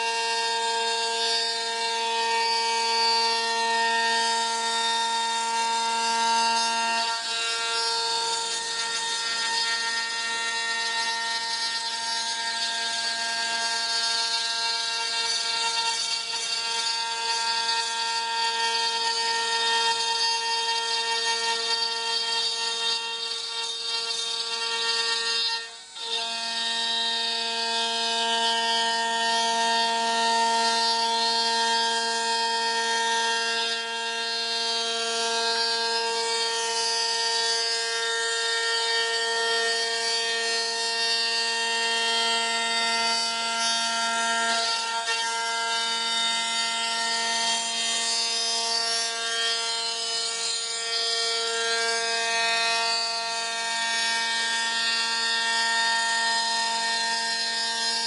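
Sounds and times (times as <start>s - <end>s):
router spindle whine cutting wood: 0.0s - 58.0s.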